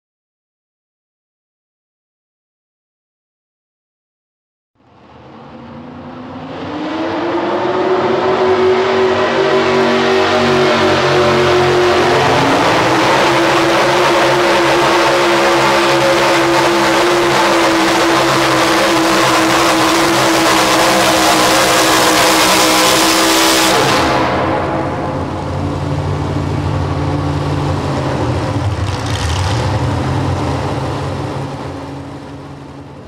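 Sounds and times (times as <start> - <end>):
truck engine at full throttle: 4.8 - 33.0.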